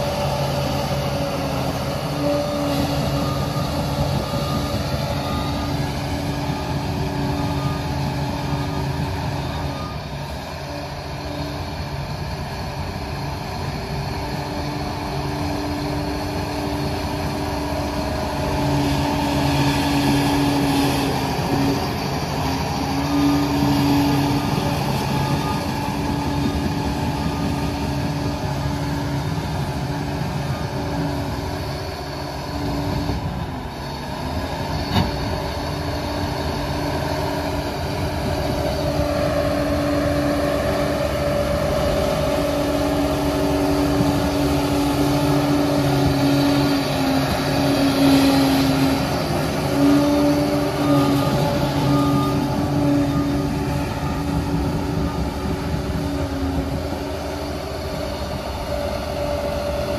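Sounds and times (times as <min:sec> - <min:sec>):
dozer diesel engine running: 0:00.0 - 0:59.9.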